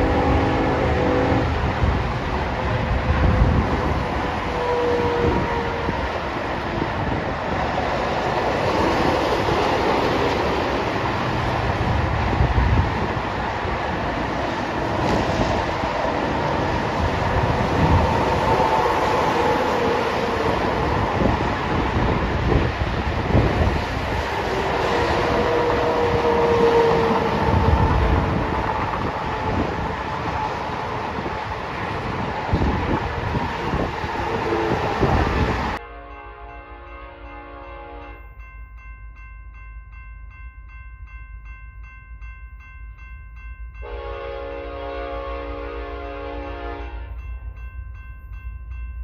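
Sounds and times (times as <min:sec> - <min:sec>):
freight locomotives running: 0:00.0 - 0:49.0.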